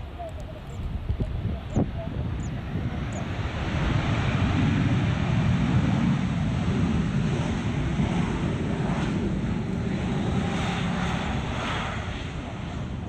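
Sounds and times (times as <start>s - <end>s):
jet airliner engines rumbling: 0.0s - 13.0s.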